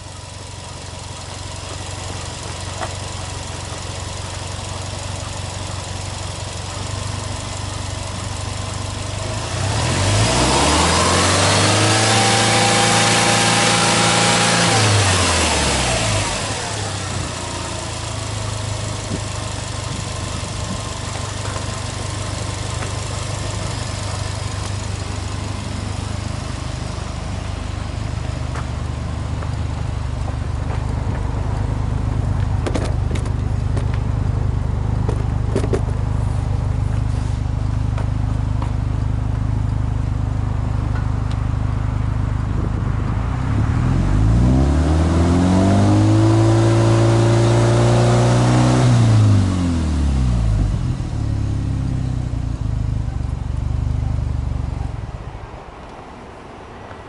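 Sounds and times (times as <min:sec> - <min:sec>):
car engine revving: 0:00.0 - 0:39.4, 0:42.4 - 0:55.4
car engine idling: 0:00.0 - 0:44.4, 0:46.1 - 0:57.0.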